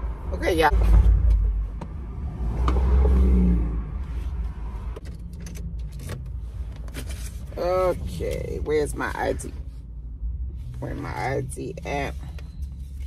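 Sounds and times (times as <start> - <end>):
car engine and cabin rumble: 0.0 - 13.0.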